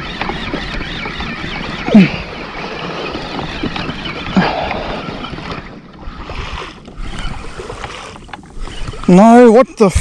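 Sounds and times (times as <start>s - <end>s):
water rushing along kayak hull: 0.0s - 10.0s
wind buffeting microphone: 0.0s - 10.0s.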